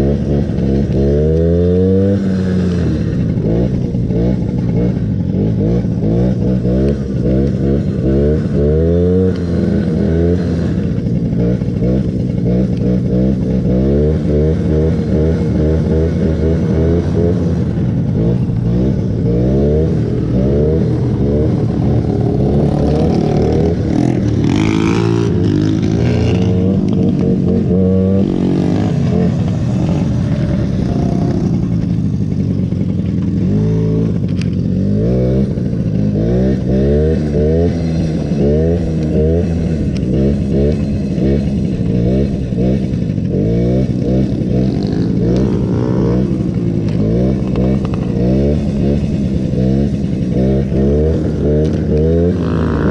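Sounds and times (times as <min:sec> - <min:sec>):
mini bike engine revving: 0:00.0 - 0:52.9.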